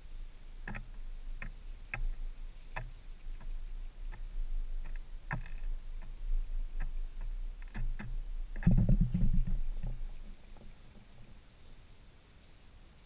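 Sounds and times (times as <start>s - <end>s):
bird pecking on wood: 0.6s - 11.3s.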